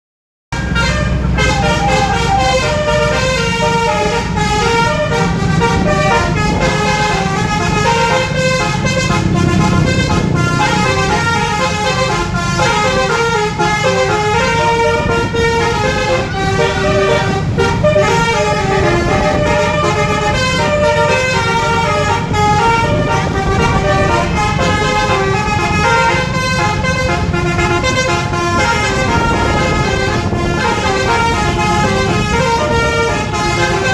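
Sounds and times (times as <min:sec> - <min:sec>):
musical air horn playing tune: 0:00.6 - 0:33.9
low rumble: 0:00.7 - 0:11.6, 0:14.2 - 0:33.2.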